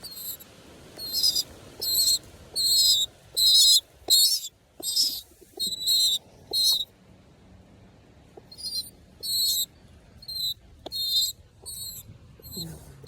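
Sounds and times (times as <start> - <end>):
baby pigeon squeaking: 0.0 - 6.9, 8.4 - 13.0.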